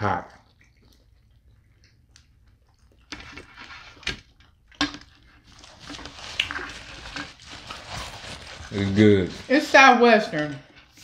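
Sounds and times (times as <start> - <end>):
chewing pizza: 0.2 - 9.3.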